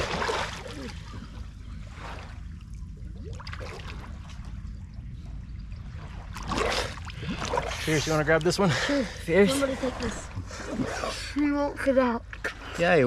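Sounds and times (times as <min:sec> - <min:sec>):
small water splashes: 0:00.0 - 0:11.5
steady low rumble: 0:00.0 - 0:13.0
water sloshing and trickling: 0:00.0 - 0:13.0.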